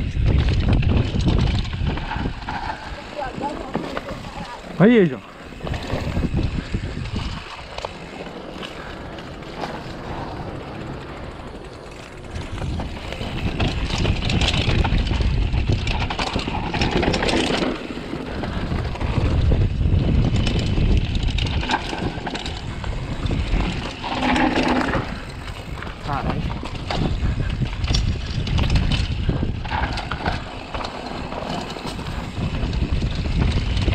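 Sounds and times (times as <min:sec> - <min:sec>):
mountain bike on rough trail: 0:00.0 - 0:33.9
wind buffeting microphone: 0:00.0 - 0:33.9.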